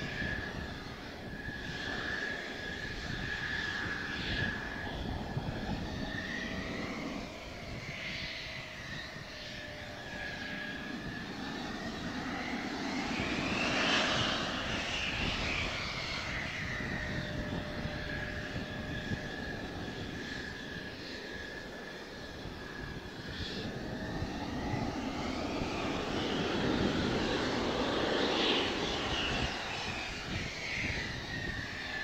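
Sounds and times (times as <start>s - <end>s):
jet engine whining: 0.0s - 32.0s
low wind rumble: 0.0s - 32.0s.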